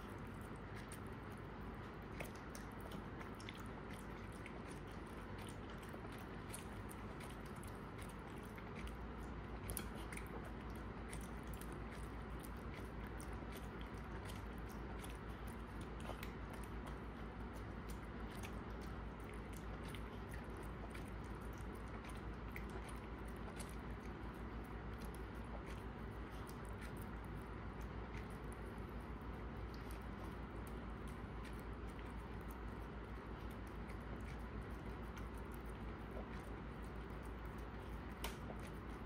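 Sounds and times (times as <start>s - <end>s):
dog chewing and licking: 0.0s - 39.0s.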